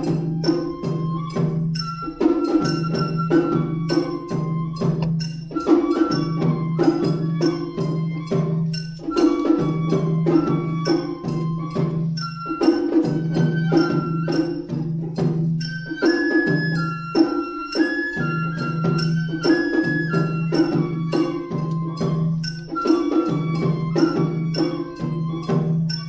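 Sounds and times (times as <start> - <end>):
bamboo flute melody: 0.0 - 26.0
taiko drums: 0.0 - 26.0.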